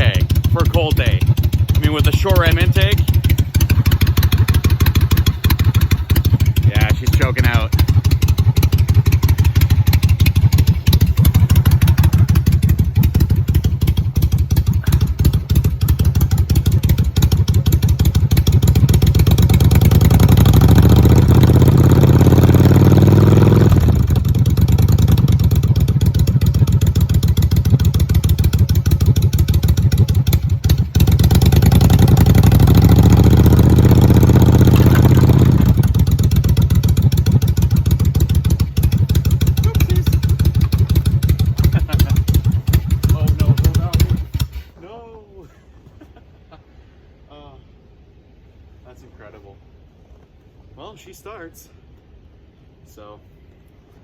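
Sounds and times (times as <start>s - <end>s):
motorcycle engine revving: 0.0s - 44.8s
motorcycle engine rough idle: 0.0s - 44.8s.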